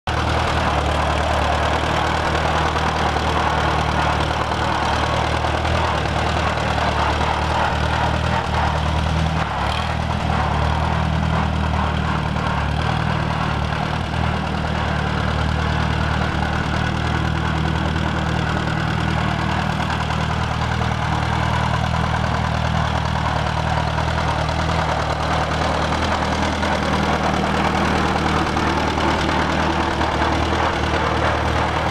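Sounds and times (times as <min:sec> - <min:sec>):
tractor engine running: 0:00.1 - 0:31.9.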